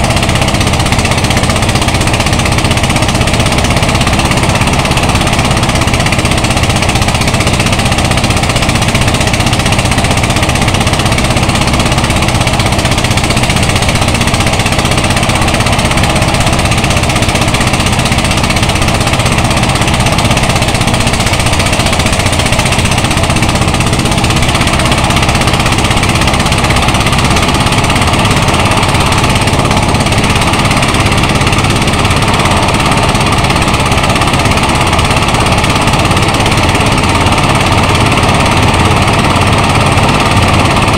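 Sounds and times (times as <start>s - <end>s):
rice thresher mechanical drone: 0.0s - 40.9s.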